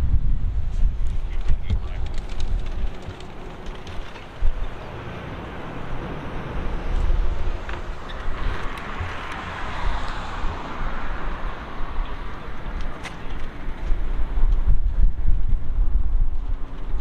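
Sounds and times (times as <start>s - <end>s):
steady low rumble: 0.0s - 17.0s
passing vehicle road noise: 0.8s - 17.0s.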